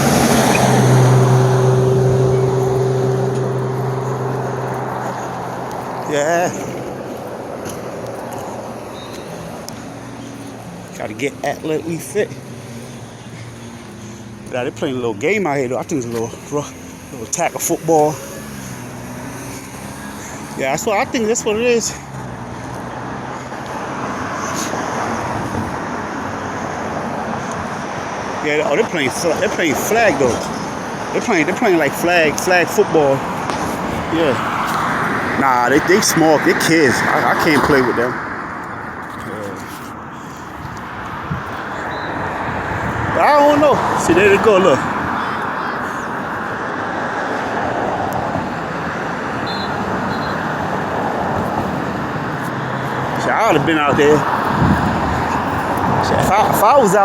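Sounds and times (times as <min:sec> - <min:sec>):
passing car: 0:00.0 - 0:57.0
road traffic noise: 0:00.0 - 0:57.0.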